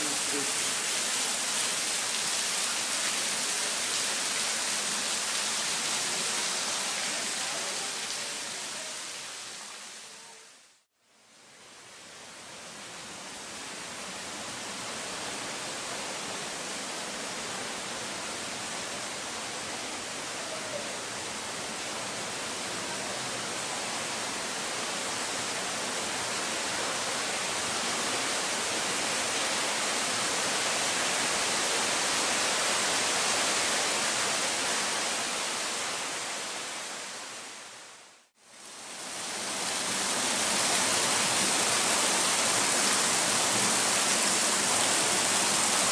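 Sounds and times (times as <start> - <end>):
river and waterfalls rushing: 0.0 - 10.7, 11.9 - 45.9.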